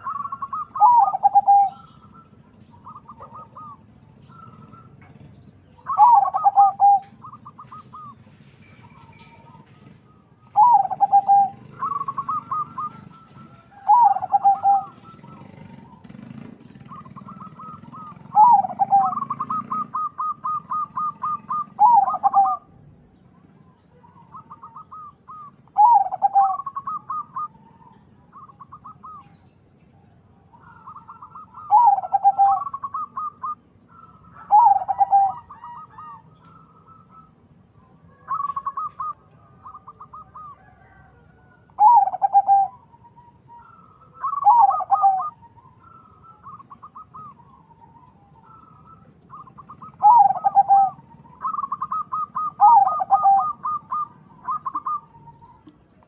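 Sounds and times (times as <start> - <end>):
dove cooing: 0.0 - 22.8, 23.4 - 56.0.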